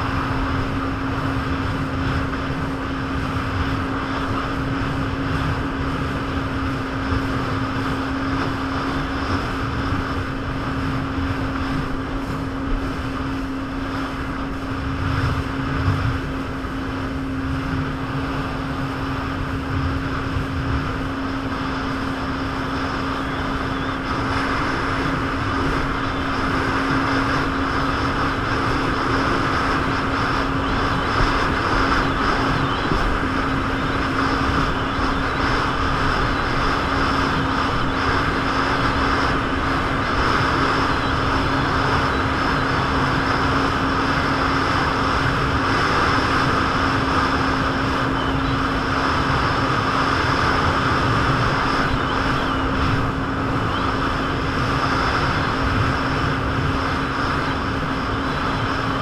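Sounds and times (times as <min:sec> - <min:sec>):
jet ski engine running: 0:00.0 - 0:59.0
steady rushing noise: 0:00.0 - 0:59.0.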